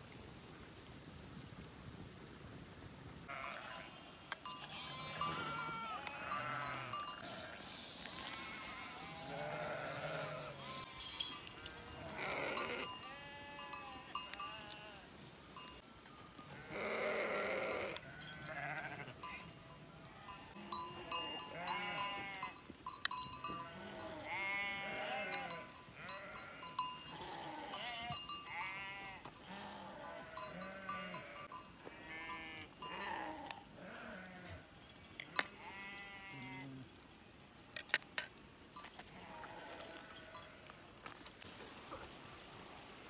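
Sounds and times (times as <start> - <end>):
sheep and goats bleating: 3.3 - 15.8, 16.4 - 36.9, 39.0 - 40.7.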